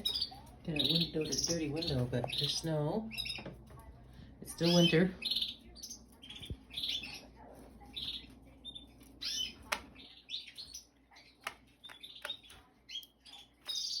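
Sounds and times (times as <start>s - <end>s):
canaries chirping: 0.0s - 14.0s.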